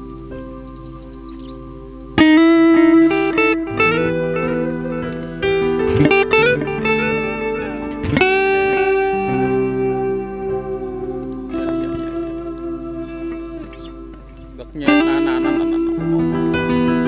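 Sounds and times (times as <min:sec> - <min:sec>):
low held notes: 0:00.0 - 0:17.0
plucked string melody: 0:00.0 - 0:17.0.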